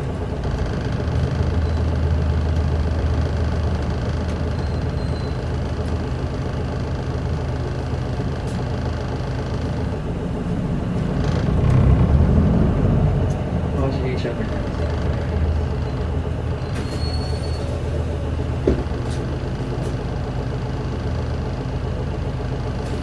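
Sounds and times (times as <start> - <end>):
bus engine humming inside cabin: 0.0 - 23.0.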